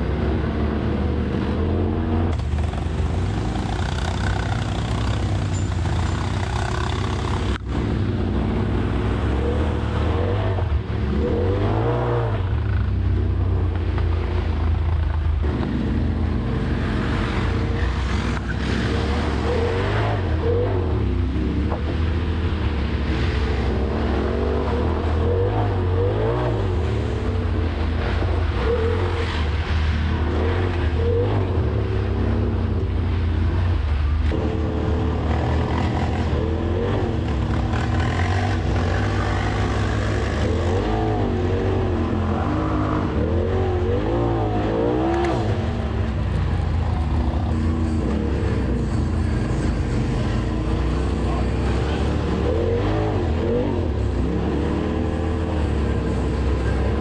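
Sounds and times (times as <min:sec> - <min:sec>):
side-by-side engine running: 0:00.0 - 0:57.0.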